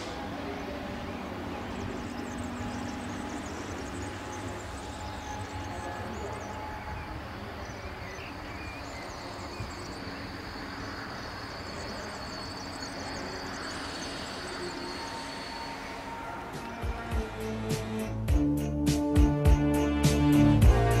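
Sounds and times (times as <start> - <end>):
diesel train engine rumbling: 0.0 - 21.0
high whine: 0.0 - 21.0.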